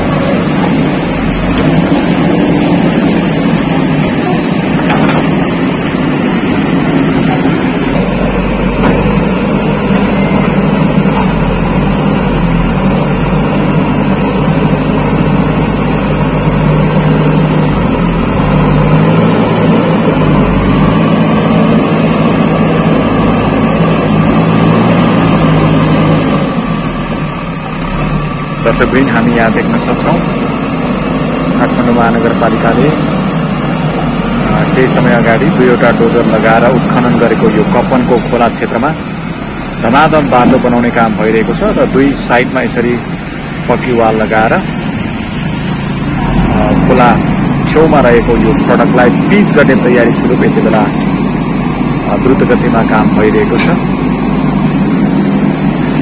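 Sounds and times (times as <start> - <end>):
diesel engine working under load: 0.0 - 56.0.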